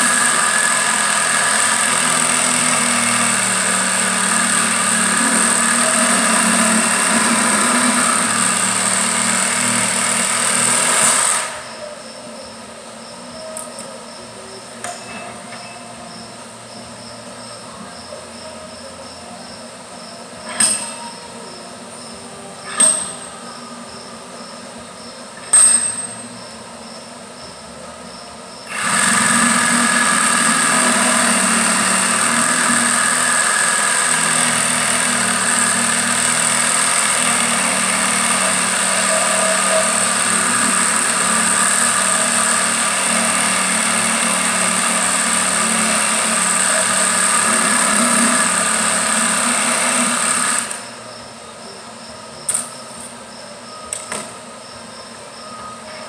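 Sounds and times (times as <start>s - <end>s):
workshop machine running: 0.0s - 56.0s.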